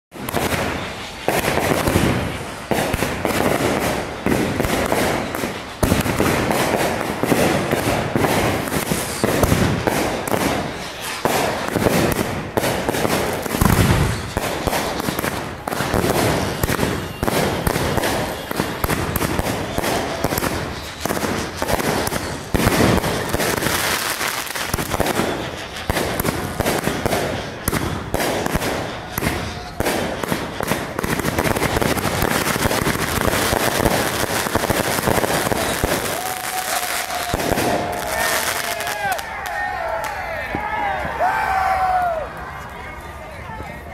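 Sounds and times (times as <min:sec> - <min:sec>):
fireworks bangs and crackles: 0:00.1 - 0:43.9.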